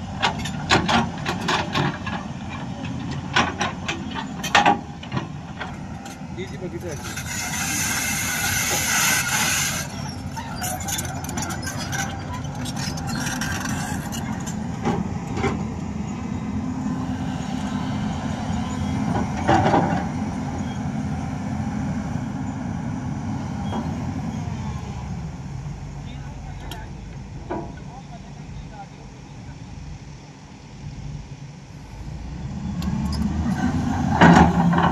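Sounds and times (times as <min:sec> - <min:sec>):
diesel construction machinery running: 0:00.0 - 0:34.9.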